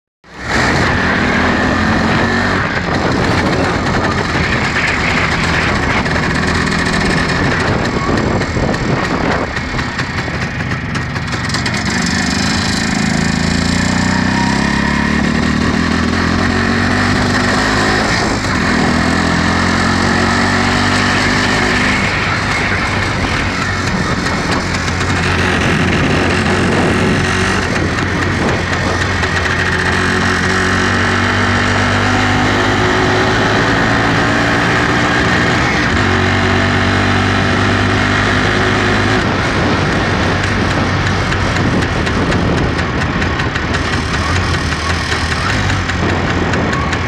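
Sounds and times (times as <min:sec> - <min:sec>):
two-stroke motorcycle engine: 0:00.2 - 0:47.0.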